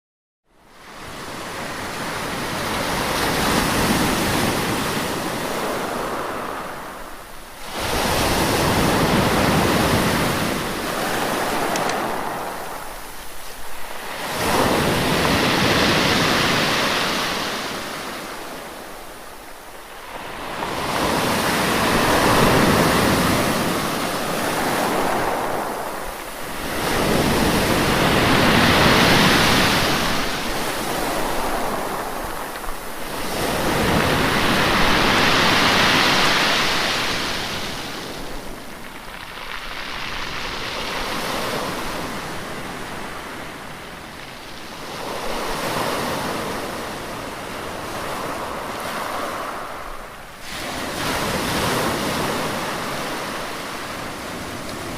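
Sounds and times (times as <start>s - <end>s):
sea waves breaking on shore: 0.8s - 54.9s.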